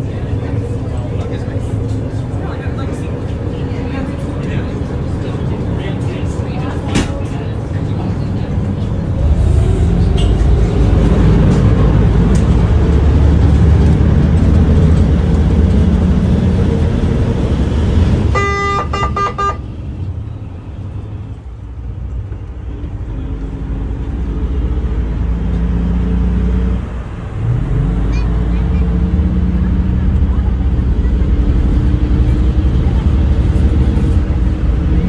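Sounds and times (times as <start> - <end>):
ferry engines rumbling: 0.0 - 35.0
rushing wind: 0.0 - 35.0.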